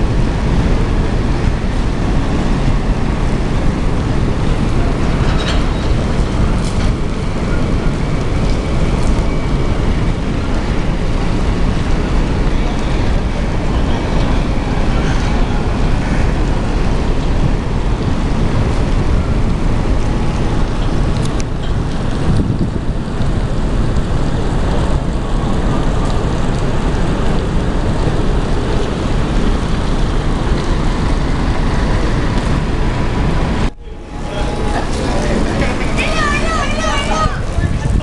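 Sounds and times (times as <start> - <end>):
sea wash: 0.0 - 38.0
wind buffeting microphone: 0.0 - 38.0.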